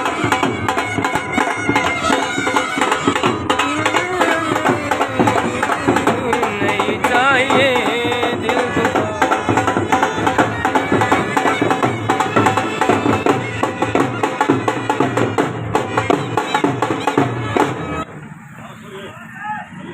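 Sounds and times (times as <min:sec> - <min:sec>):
piping folk melody: 0:00.0 - 0:18.1
steady drumming: 0:00.0 - 0:18.1.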